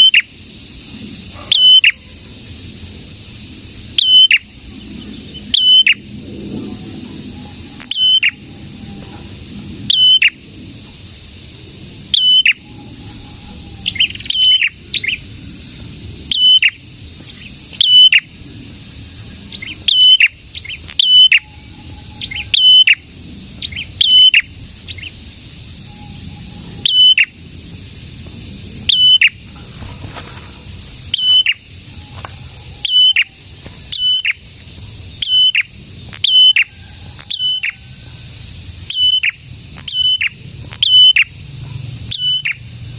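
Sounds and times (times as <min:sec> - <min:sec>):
steady low hiss: 0:00.0 - 0:42.9.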